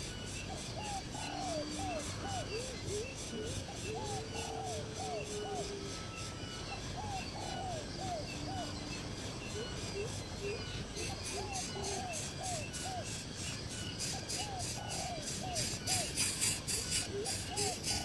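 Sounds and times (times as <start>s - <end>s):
bird whistling song: 0.0s - 18.0s
insects pulsing: 0.0s - 18.0s.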